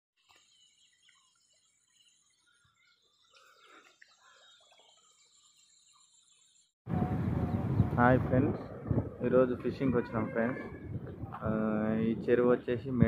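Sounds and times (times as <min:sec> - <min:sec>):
birds chirping: 0:00.3 - 0:13.0.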